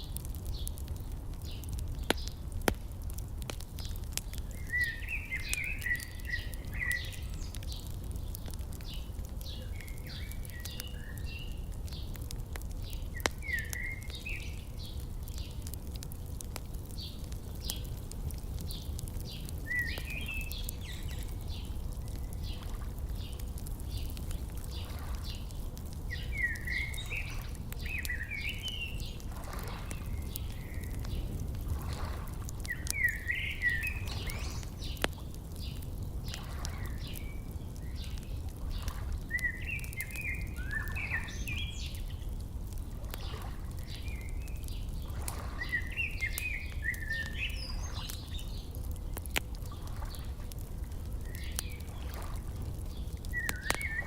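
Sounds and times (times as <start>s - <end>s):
wood fire crackling and popping: 0.0s - 54.0s
songbird singing: 3.7s - 15.8s, 16.9s - 50.4s, 51.0s - 54.0s.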